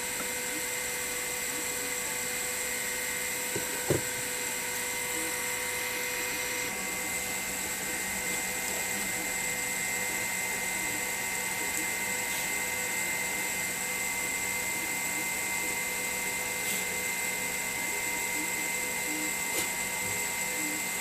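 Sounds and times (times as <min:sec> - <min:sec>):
faint high whine: 0:00.0 - 0:21.0
small motor whirring: 0:00.0 - 0:21.0.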